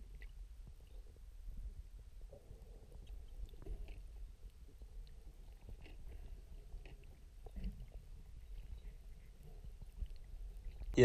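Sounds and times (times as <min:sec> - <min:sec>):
small clicks and crackles: 0:00.0 - 0:11.0.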